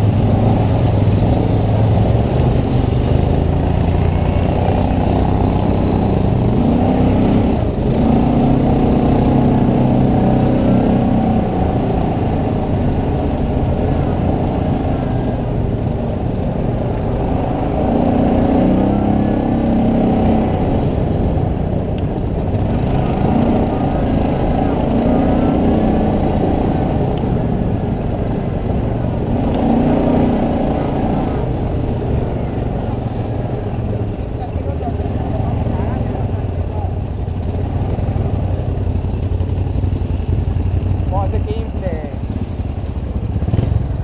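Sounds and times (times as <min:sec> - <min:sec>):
atv engine buzzing: 0:00.0 - 0:44.0.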